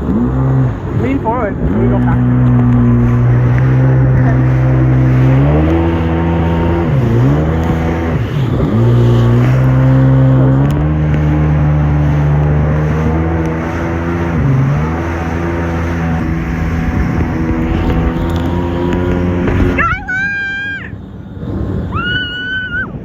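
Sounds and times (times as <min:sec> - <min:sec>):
jet ski engine running: 0:00.0 - 0:23.0.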